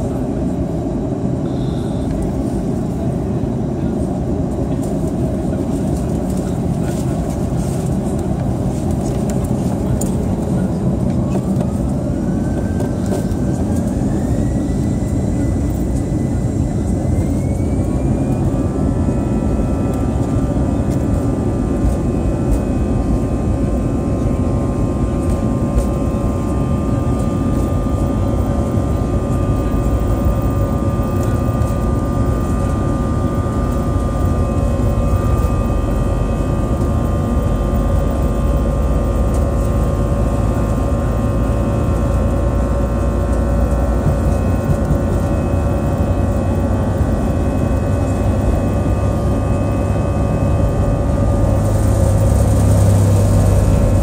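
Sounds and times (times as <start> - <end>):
jet engine whine spooling up: 0.0 - 54.0
loud engine rumble: 0.0 - 54.0.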